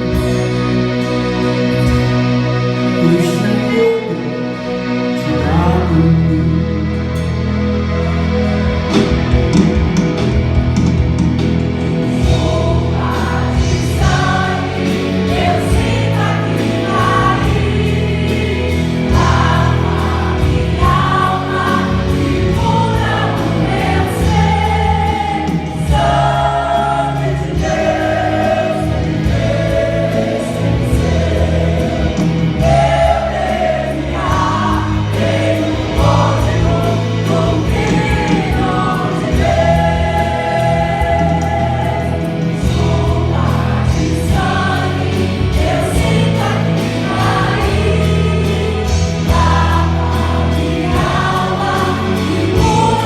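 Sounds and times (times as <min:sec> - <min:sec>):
band playing: 0:00.0 - 0:53.0
choir singing: 0:00.0 - 0:53.0.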